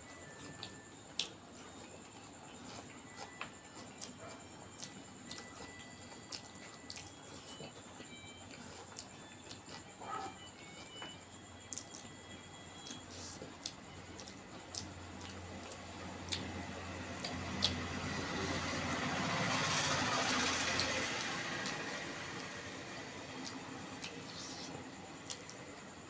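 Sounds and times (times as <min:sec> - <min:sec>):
close-up eating sounds: 0:00.1 - 0:26.0.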